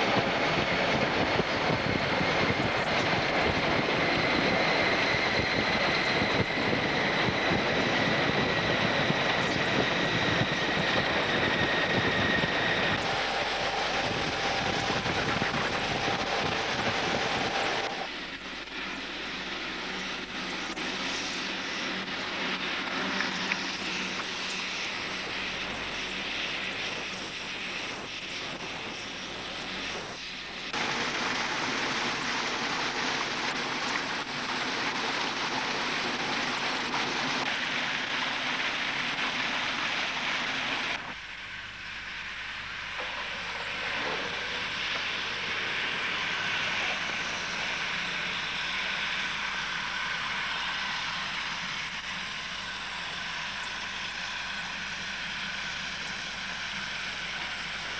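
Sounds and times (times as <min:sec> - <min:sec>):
faint high turbine whine: 0:00.0 - 0:57.9
steam locomotive rushing: 0:00.0 - 0:57.9.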